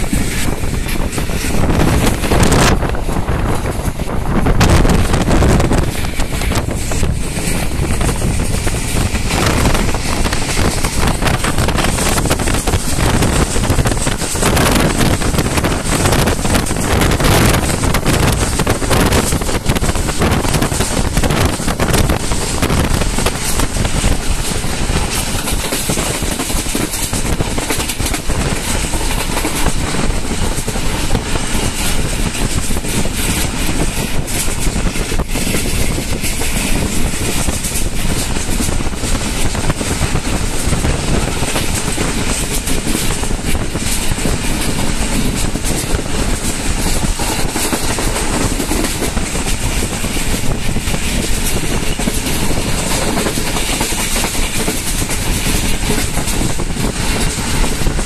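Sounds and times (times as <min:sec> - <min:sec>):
train rushing at speed: 0:00.0 - 0:58.0
wind buffeting microphone: 0:00.0 - 0:58.0.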